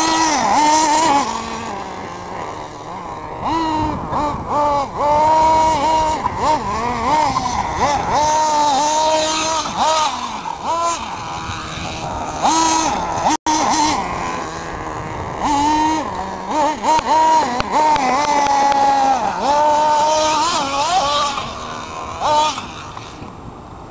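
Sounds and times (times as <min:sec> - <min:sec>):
small nitro engine revving: 0:00.0 - 0:23.9.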